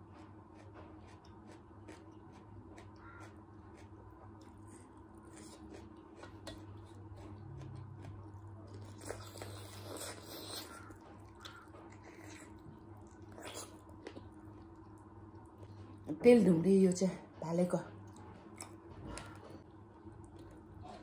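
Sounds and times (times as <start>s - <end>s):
person chewing chicken: 0.1s - 15.9s, 18.1s - 21.0s.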